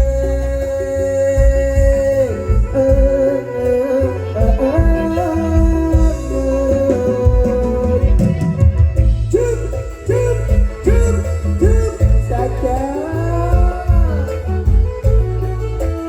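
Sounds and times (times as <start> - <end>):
folk party music: 0.0 - 16.0
heavy drum beat: 0.0 - 16.0
sliding melody line: 0.0 - 16.0
strings: 0.0 - 16.0.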